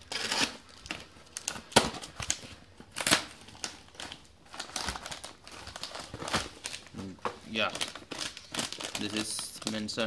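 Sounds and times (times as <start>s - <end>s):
cardboard and plastic crinkling: 0.1s - 10.0s.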